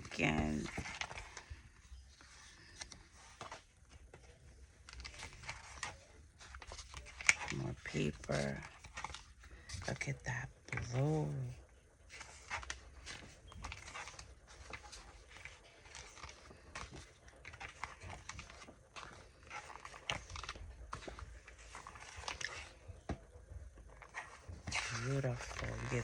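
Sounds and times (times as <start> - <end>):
paper pages rustling: 0.0 - 26.0.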